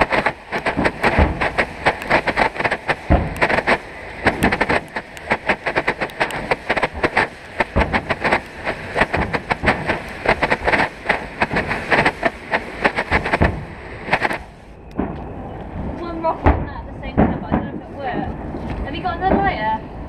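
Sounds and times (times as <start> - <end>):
firework pops and crackles: 0.0 - 15.3, 16.2 - 19.6.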